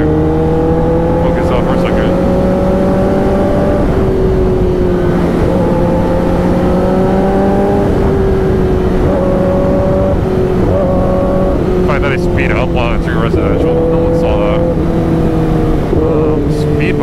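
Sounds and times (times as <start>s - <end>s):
motorcycle engine at speed: 0.0s - 17.0s
wind noise rushing: 0.3s - 17.0s.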